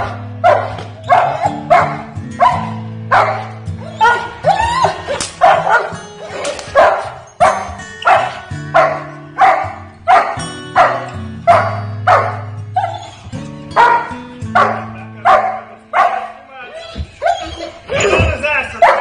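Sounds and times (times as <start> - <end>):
dog barking: 0.0 - 13.2, 13.8 - 16.4, 18.7 - 19.0
background music: 0.0 - 19.0.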